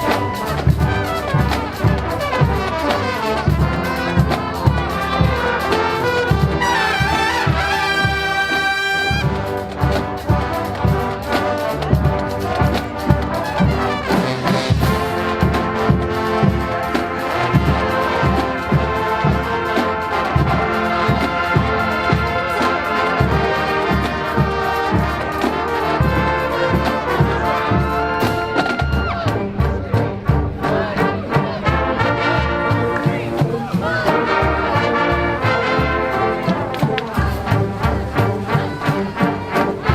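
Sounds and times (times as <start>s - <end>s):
steady drum beat: 0.0s - 39.9s
trumpets and trombones: 0.0s - 39.9s.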